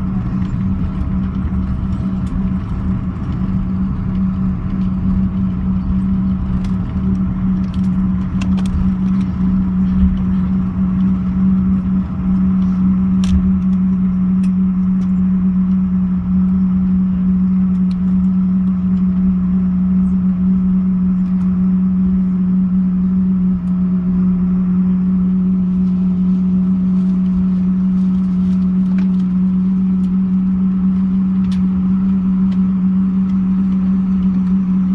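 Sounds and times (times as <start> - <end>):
airliner engine hum and drone: 0.0 - 34.9.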